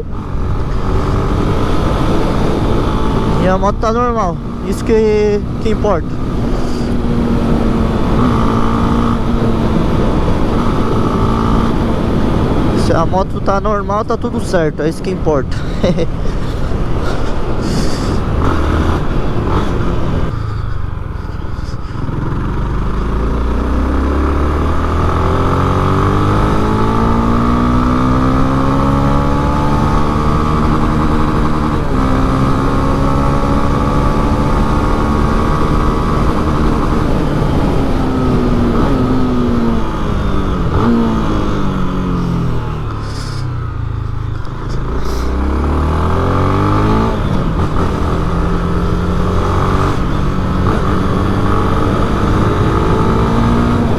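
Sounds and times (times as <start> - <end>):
motorcycle engine accelerating: 0.0 - 53.9
wind and road rumble: 0.0 - 53.9.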